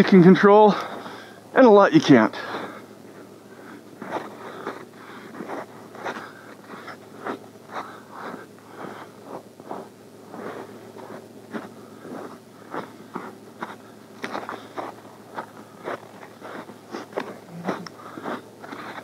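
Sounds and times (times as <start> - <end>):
footsteps crunching through snow: 2.6 - 19.0.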